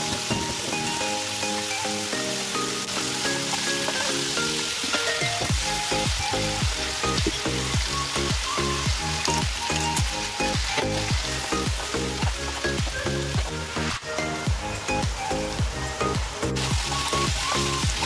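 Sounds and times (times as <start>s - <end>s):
background music with steady beat: 0.0s - 18.0s
chicken frying in oil: 0.0s - 18.0s.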